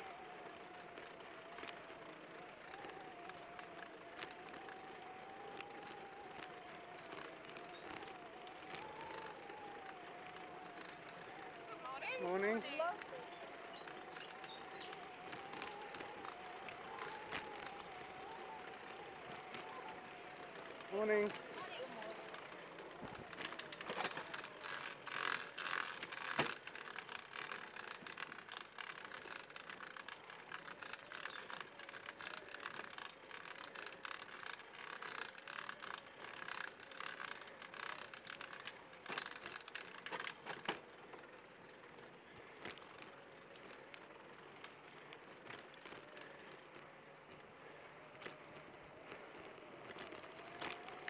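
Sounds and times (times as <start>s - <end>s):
trike clicking rattle: 0.0s - 51.0s.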